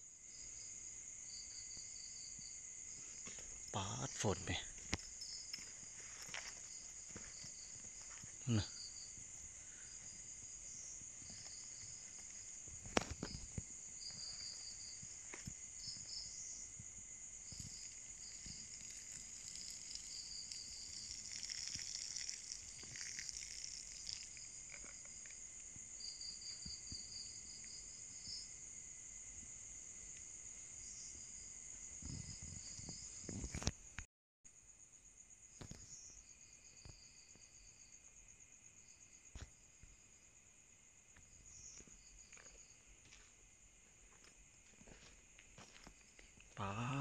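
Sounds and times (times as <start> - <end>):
insects buzzing: 0.0 - 34.0, 34.6 - 47.0
crickets trilling: 0.0 - 47.0.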